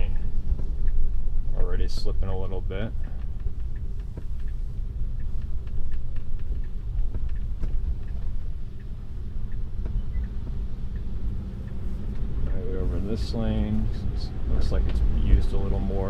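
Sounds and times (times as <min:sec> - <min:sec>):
small clicks and crackles: 0:00.1 - 0:16.0.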